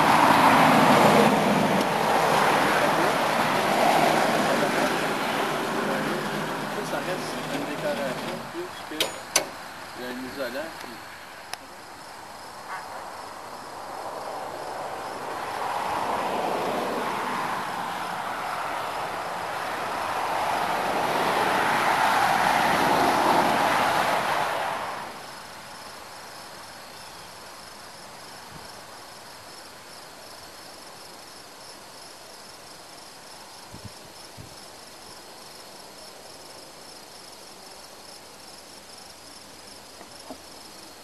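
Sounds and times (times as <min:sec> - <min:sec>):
insects chirring: 0:00.0 - 0:22.0, 0:25.0 - 0:41.0.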